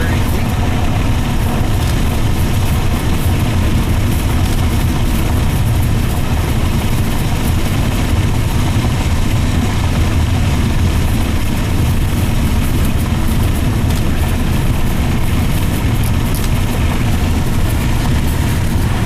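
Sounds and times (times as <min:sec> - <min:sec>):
car cabin road noise: 0:00.0 - 0:19.0.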